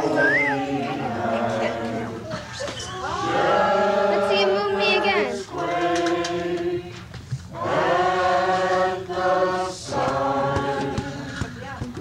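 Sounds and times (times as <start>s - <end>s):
group singing a carol: 0.0s - 12.0s.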